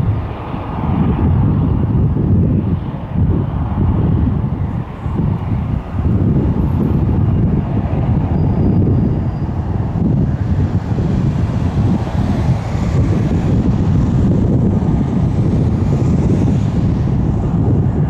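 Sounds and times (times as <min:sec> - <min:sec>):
faint engine whine: 0:00.0 - 0:18.0
jet engines rumbling: 0:00.0 - 0:18.0
wind buffeting microphone: 0:00.0 - 0:18.0.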